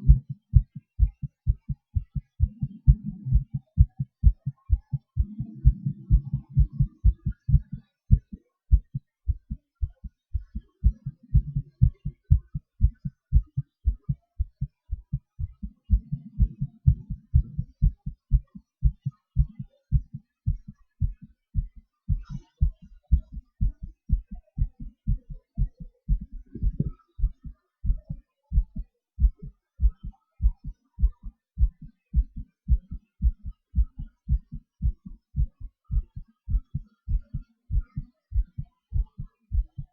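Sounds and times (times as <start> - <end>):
soft low rush: 0.0 - 21.8, 23.2 - 34.0
heartbeat thumps: 0.0 - 39.9.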